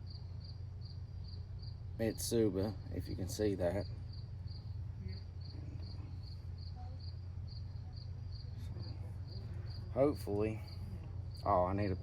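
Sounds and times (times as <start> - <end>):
cricket chirping: 0.0 - 12.0
low hum: 0.0 - 12.0.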